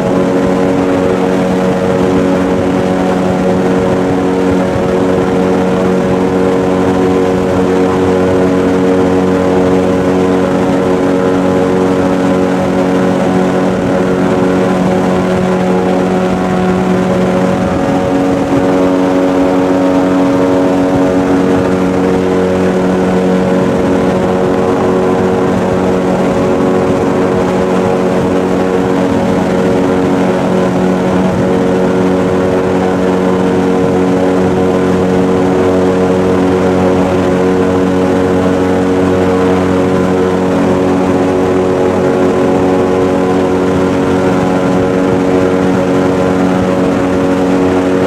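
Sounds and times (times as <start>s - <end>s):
airboat engine and propeller drone: 0.0s - 48.0s.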